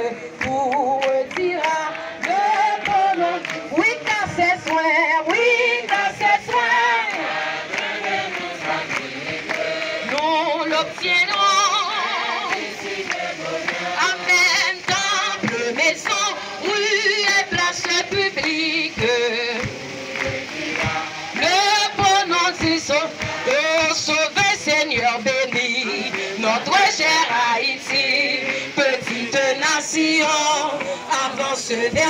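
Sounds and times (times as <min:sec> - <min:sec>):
woman singing into a microphone: 0:00.0 - 0:09.0, 0:10.0 - 0:13.2, 0:13.9 - 0:32.0
crowd singing a hymn: 0:00.0 - 0:32.0.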